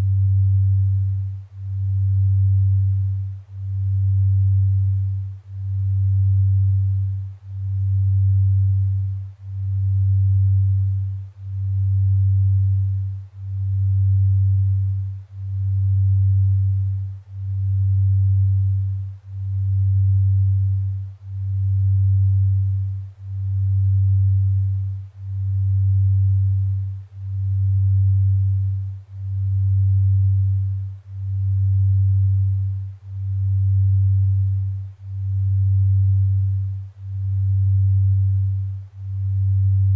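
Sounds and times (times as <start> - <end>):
low pulsing sine tone: 0.0 - 39.9.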